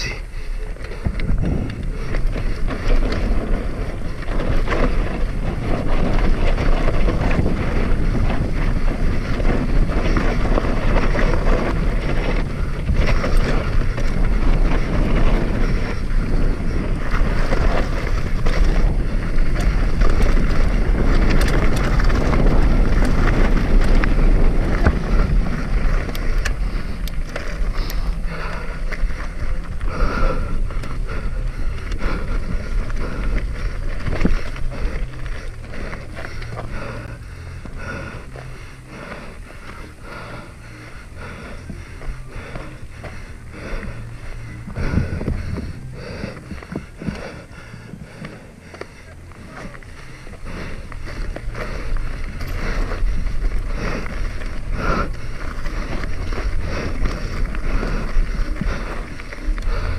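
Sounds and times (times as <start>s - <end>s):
mountain bike rattling over rocks: 0.0s - 59.9s
wind buffeting microphone: 0.0s - 59.9s.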